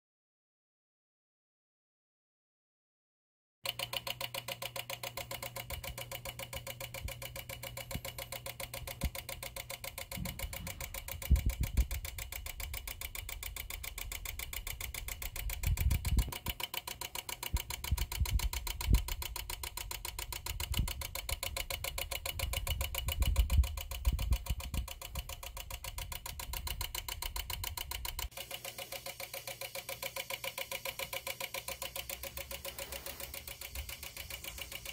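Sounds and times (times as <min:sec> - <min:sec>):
dimmer chattering buzz: 0:03.6 - 0:34.9.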